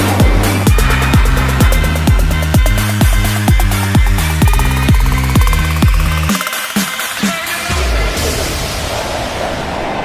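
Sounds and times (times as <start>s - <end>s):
electronic dance music: 0.0s - 8.6s.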